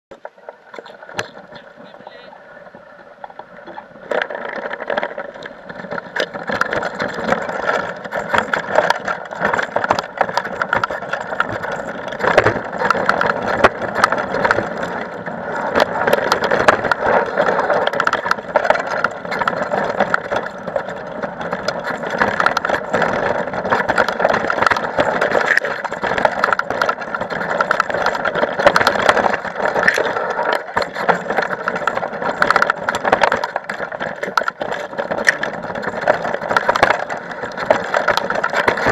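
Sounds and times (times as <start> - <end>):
bike rattling: 0.1 - 38.9
tyres on loose stones: 0.1 - 38.9.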